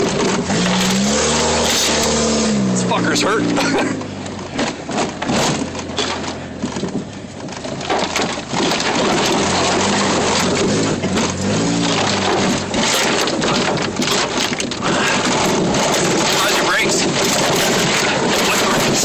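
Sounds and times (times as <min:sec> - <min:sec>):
branches scraping against vehicle: 0:00.0 - 0:19.0
engine low drone: 0:00.0 - 0:19.0.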